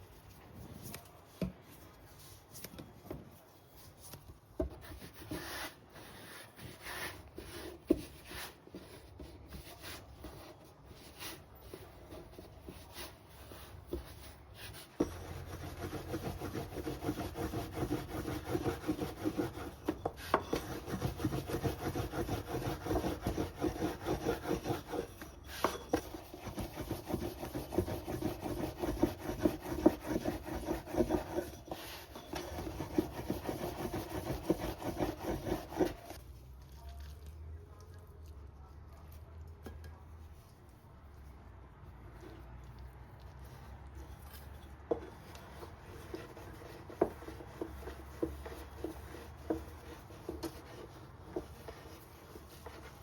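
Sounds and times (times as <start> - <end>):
rolling pin on dough: 0.0 - 36.2, 41.9 - 53.0.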